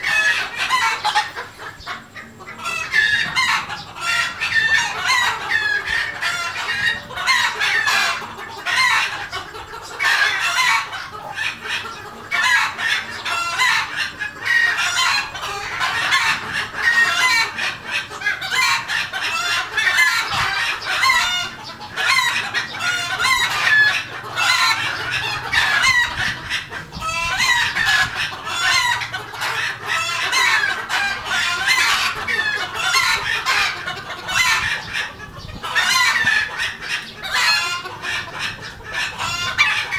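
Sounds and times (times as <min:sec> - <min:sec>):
chickens clucking and calling: 0:00.0 - 0:39.9
roosters crowing: 0:00.0 - 0:39.9.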